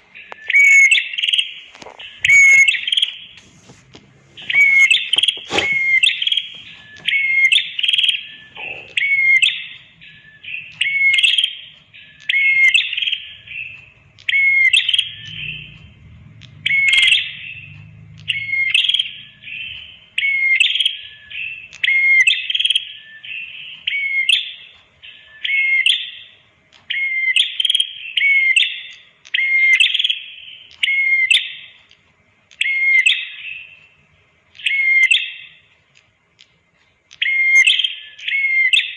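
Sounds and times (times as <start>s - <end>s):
bird chirping phrases: 0.0s - 3.4s, 4.3s - 31.7s, 32.6s - 34.0s, 37.1s - 38.9s.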